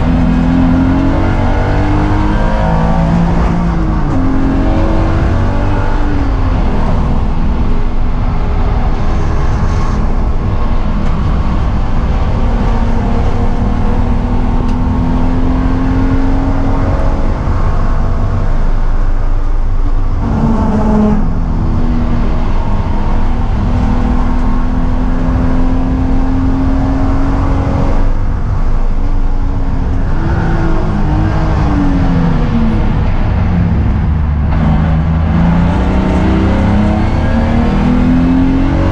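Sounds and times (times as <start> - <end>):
car engine revving: 0.0 - 38.9
road and wind noise: 0.0 - 38.9.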